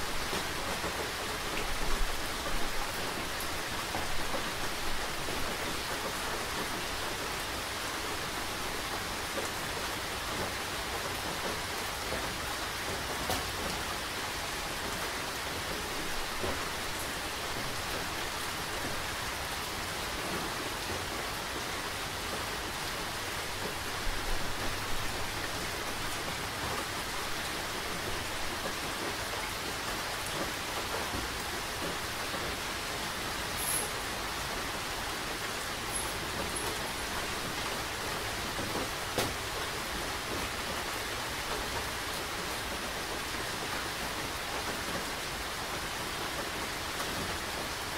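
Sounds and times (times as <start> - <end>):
individual raindrops: 0.0 - 47.9
steady rain patter: 0.0 - 47.9.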